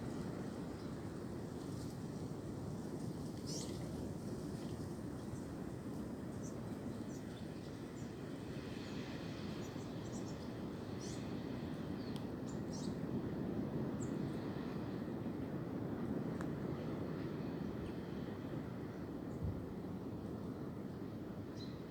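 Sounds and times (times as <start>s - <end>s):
wind through tree branches: 0.0s - 21.9s.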